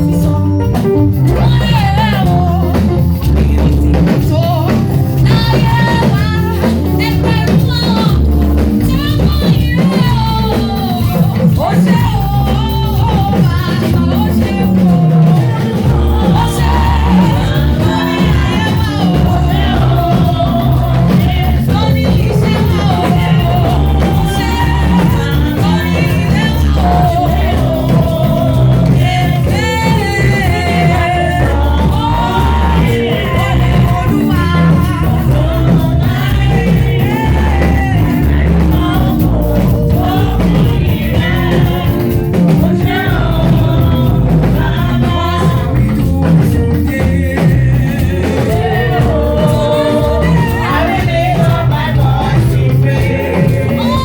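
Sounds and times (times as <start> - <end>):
band playing: 0.0 - 54.0
people singing: 0.0 - 54.0.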